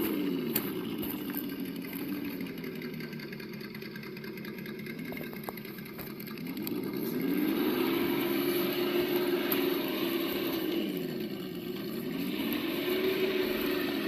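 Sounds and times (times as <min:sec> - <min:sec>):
simulated engine sound through speaker: 0:00.0 - 0:14.0.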